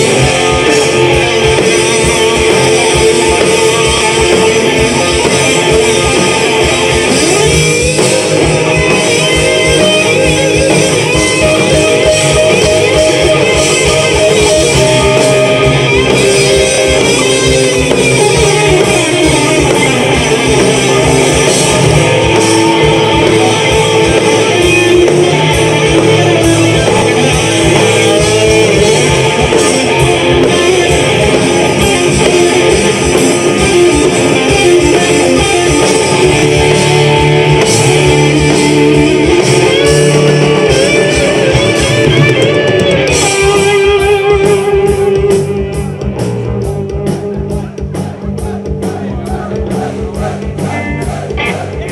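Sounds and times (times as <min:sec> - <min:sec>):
bass guitar: 0:00.0 - 0:51.9
drums: 0:00.0 - 0:51.9
electric guitars: 0:00.0 - 0:51.9.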